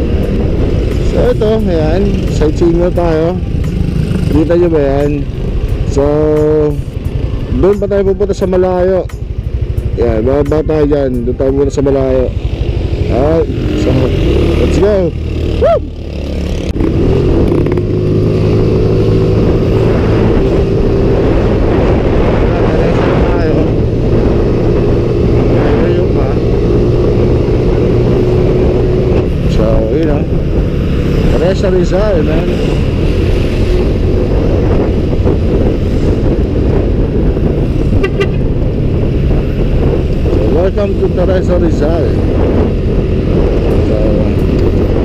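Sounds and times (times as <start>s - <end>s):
road and wind noise: 0.0s - 45.0s.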